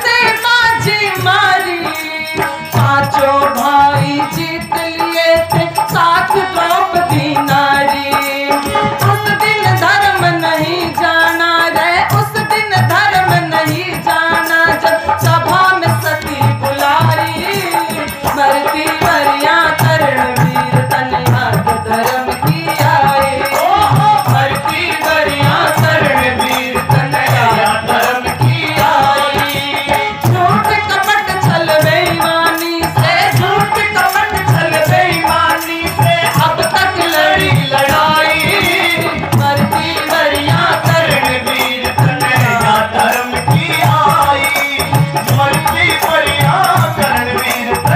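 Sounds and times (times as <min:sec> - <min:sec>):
harmonium: 0:00.0 - 0:47.9
man singing: 0:00.0 - 0:47.9
woman singing: 0:00.0 - 0:47.9.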